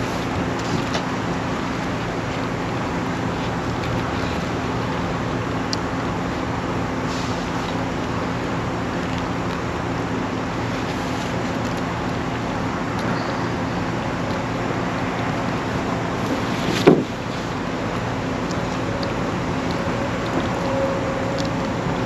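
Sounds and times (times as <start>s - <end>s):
engine drone: 0.0s - 22.0s
road and wind noise: 0.0s - 22.0s.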